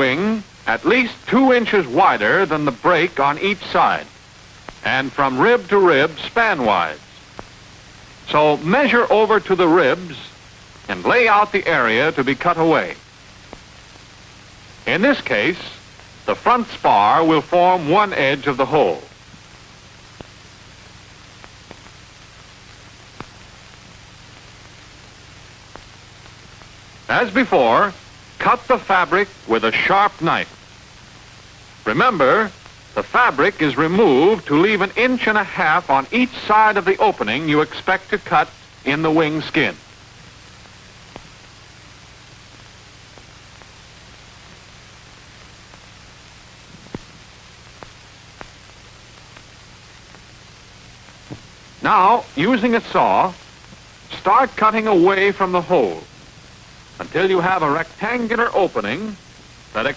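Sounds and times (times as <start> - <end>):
film soundtrack hiss and hum: 0.0 - 59.9.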